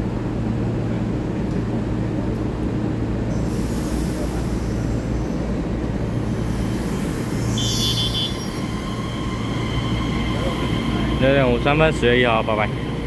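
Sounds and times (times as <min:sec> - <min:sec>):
electric train high whine: 0:00.0 - 0:13.0
train low rumble: 0:00.0 - 0:13.0.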